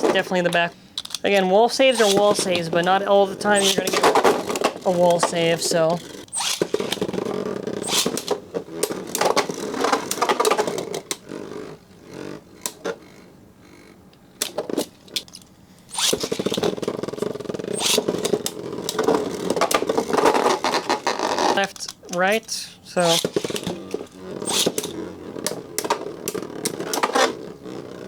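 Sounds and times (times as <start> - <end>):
spinning tops whirring: 0.0 - 28.0.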